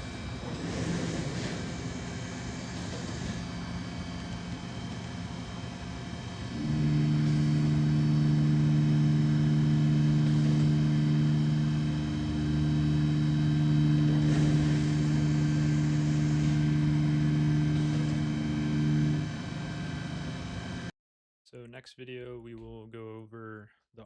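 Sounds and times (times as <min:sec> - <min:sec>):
milling machine humming: 0:00.0 - 0:20.9.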